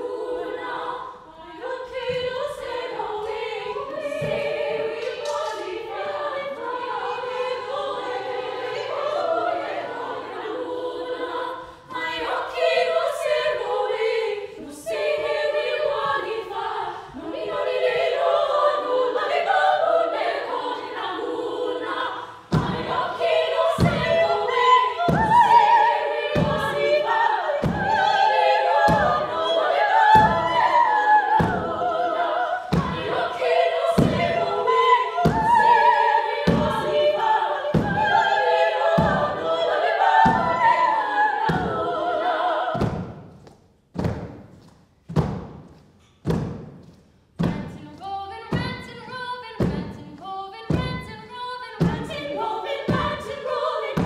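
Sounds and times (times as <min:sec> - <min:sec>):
choir of women singing: 0:00.0 - 0:44.5, 0:47.3 - 0:54.0.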